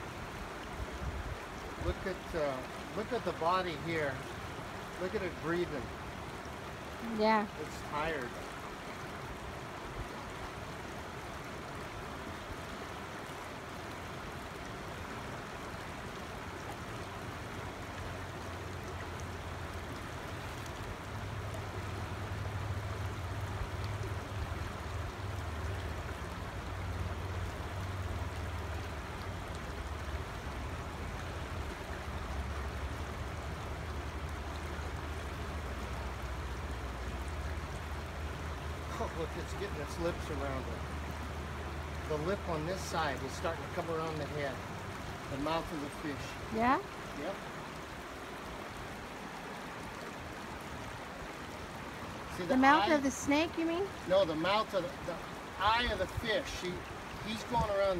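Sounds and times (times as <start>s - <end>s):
creek flowing over rocks: 0.0s - 57.9s.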